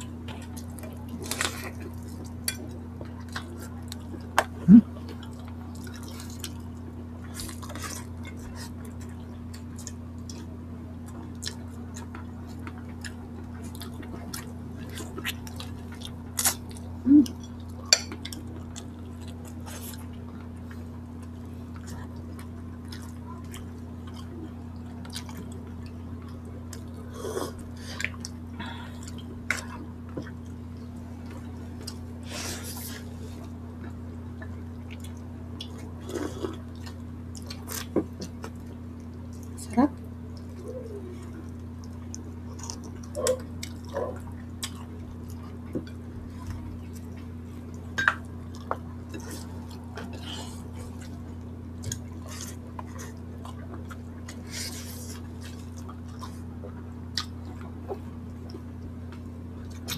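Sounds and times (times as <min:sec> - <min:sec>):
people chewing and mouth smacks: 0:00.0 - 0:59.9
steady low hum: 0:00.0 - 0:59.9.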